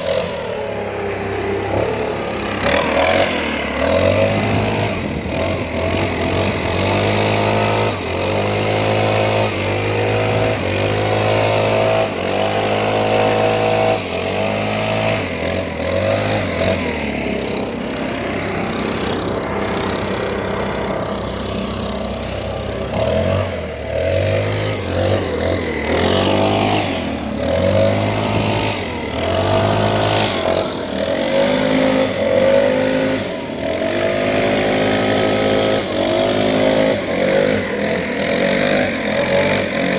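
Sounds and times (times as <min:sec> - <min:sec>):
leaf blower engine revving: 0:00.0 - 0:39.9.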